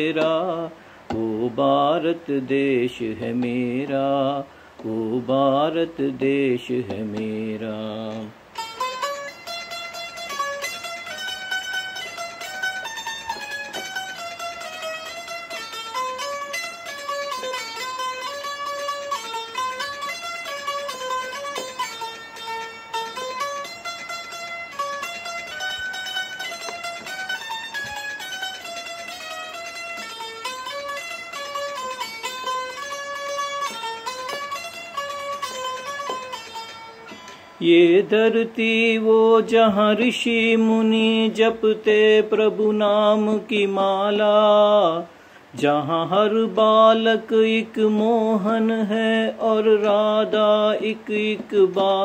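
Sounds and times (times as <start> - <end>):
plucked string instrument melody: 0.0 - 52.0.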